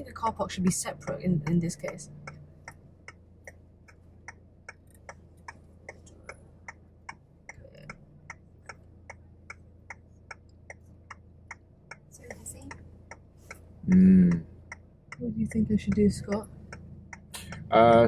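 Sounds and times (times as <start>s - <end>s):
car engine idling hum: 0.0s - 18.0s
turn signal ticking: 0.0s - 18.0s.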